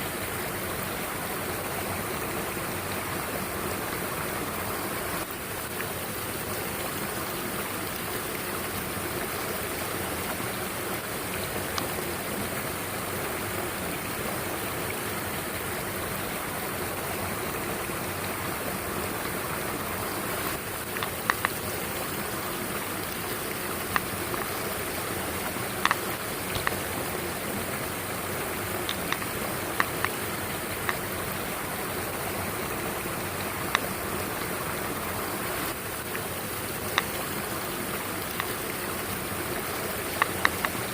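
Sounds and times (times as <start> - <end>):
mountain stream flowing: 0.0 - 40.9.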